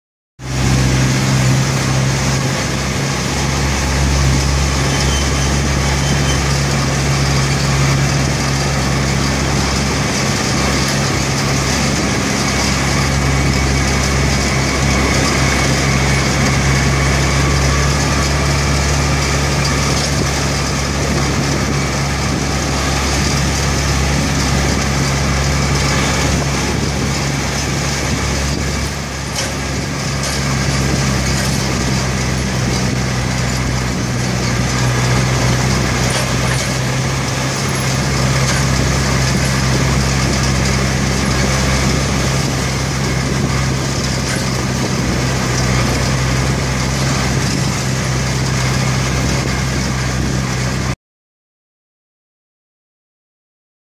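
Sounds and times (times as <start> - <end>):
following vehicle engine: 0.4 - 51.0
tractor diesel engine running: 0.4 - 51.0
wind noise: 0.5 - 51.0.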